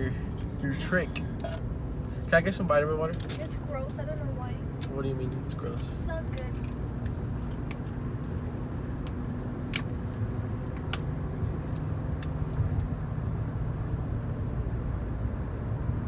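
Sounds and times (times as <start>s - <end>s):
car interior road noise: 0.0s - 16.0s.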